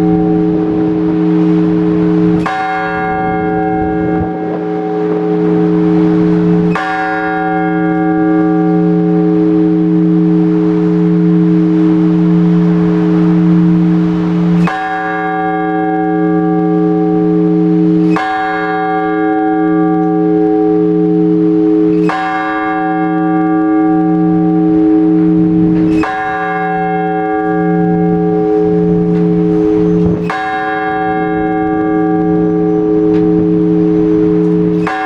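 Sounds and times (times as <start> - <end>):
large church bell tolling: 0.0 - 35.0.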